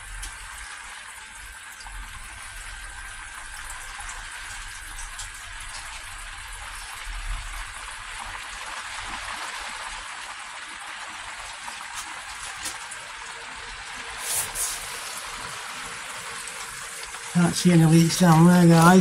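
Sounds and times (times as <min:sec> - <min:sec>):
water running and trickling: 0:00.0 - 0:19.0.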